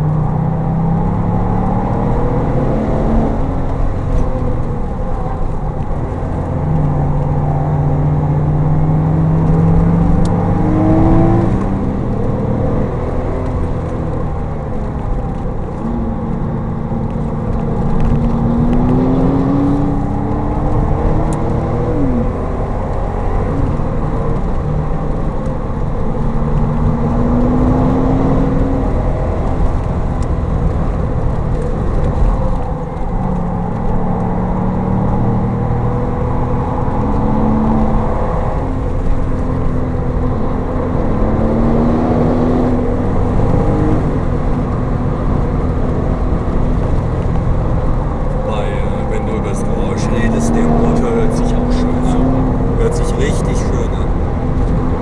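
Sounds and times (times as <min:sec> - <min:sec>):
car engine revving: 0:00.0 - 0:55.0
road noise rumble: 0:00.0 - 0:55.0.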